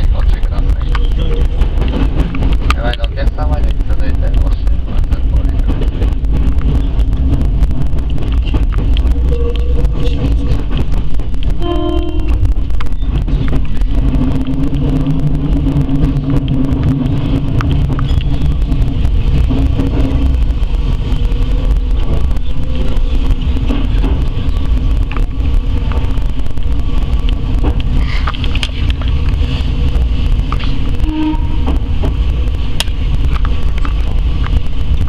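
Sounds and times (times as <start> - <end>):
train motor hum: 0.0 - 35.0
train running over rails: 0.0 - 35.0.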